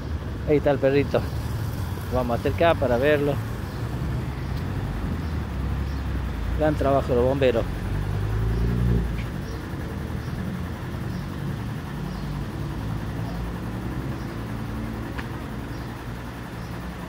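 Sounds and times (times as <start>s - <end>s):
street traffic: 0.0s - 17.0s
vehicle engine running: 0.0s - 17.0s.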